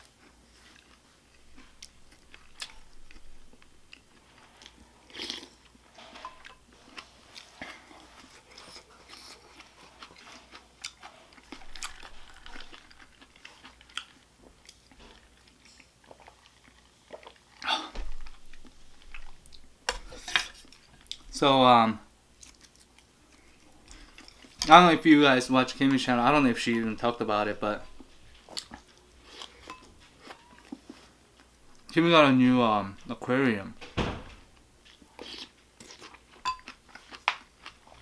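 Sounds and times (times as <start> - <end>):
person chewing food: 0.0 - 21.3, 22.3 - 24.7, 27.8 - 31.9, 34.6 - 38.0.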